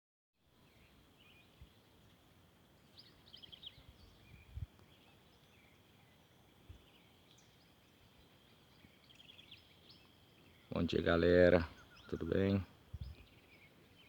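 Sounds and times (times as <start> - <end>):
birds chirping: 0.6 - 14.0.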